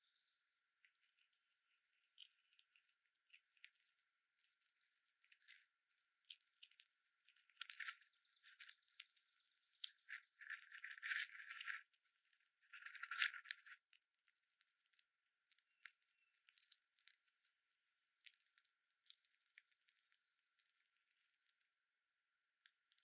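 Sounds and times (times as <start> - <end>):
rodent gnawing and crunching: 0.0 - 23.0.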